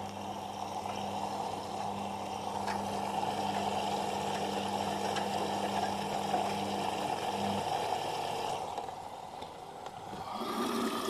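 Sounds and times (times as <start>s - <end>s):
water rushing into washing machine: 0.0s - 9.1s, 10.1s - 11.0s
steady electrical hum: 0.0s - 11.0s.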